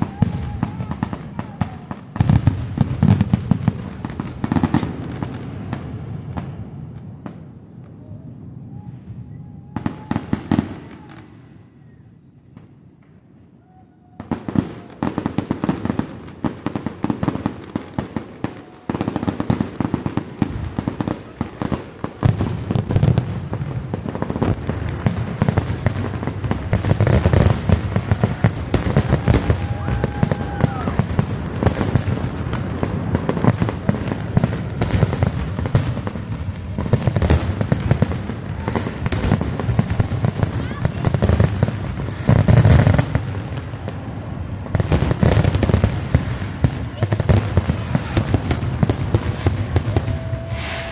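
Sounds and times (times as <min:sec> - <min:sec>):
low firework booms: 0:00.0 - 0:11.9, 0:14.1 - 0:50.9
fireworks bursting and crackling: 0:00.0 - 0:50.9.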